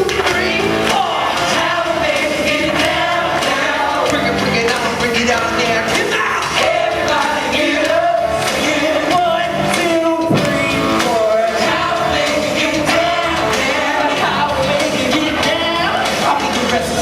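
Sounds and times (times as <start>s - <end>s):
loud rock music with singing: 0.0s - 17.0s.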